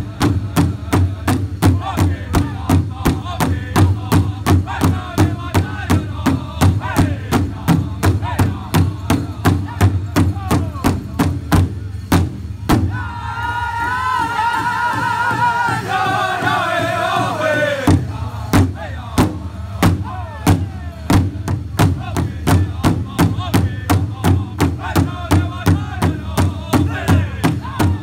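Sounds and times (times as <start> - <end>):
group singing in high voices: 0.0 - 11.0, 12.9 - 28.0
large hide drum beats: 0.0 - 28.0.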